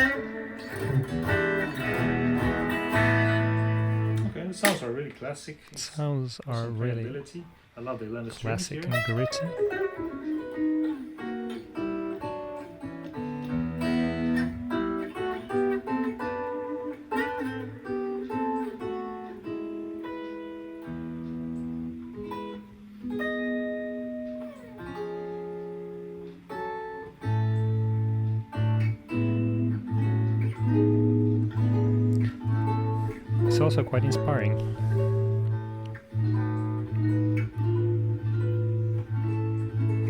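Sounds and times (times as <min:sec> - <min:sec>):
electric guitar playing: 0:00.0 - 0:05.0, 0:08.5 - 0:40.0.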